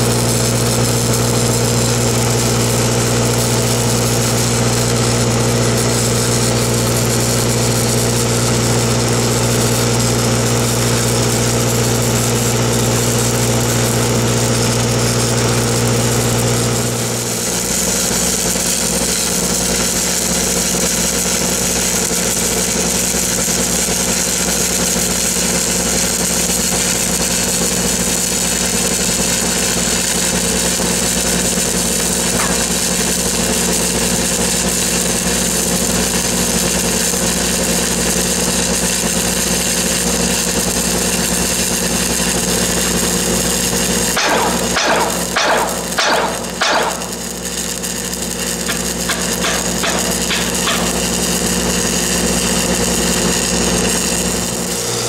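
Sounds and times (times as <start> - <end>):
welding arc crackling and hissing: 0.0 - 55.0
welding machine engine hum: 0.0 - 55.0.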